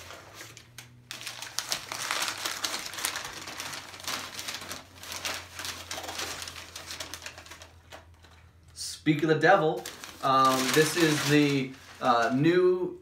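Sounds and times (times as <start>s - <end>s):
paper crinkling: 0.0s - 8.6s, 9.8s - 12.6s.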